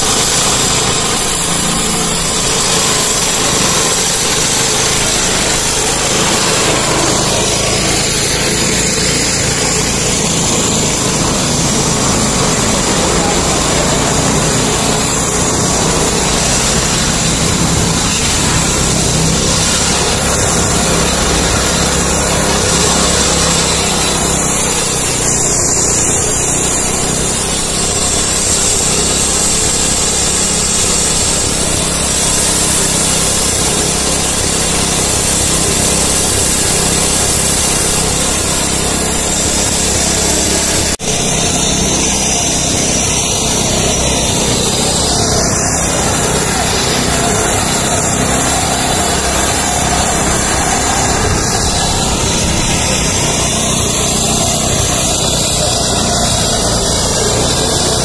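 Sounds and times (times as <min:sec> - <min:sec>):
concrete saw cutting concrete: 0:00.0 - 0:58.0.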